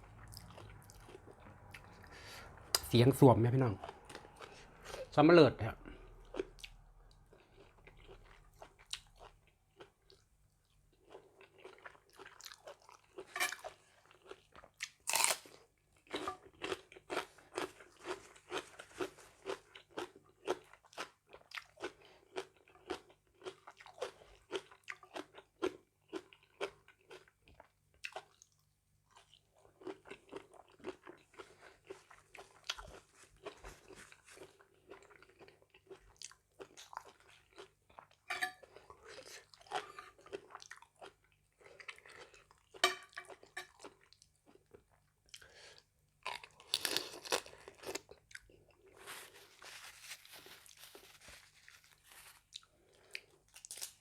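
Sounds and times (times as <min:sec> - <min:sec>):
wet chewing with crunches: 0:00.0 - 0:02.9, 0:03.6 - 0:05.1, 0:05.8 - 0:54.0.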